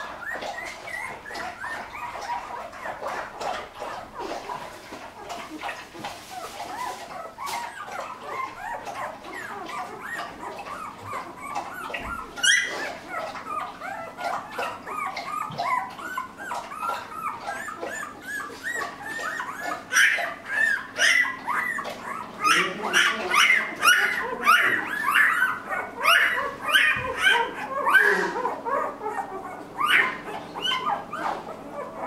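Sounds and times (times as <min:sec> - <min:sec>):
puppies whimpering and squeaking: 0:00.0 - 0:32.0.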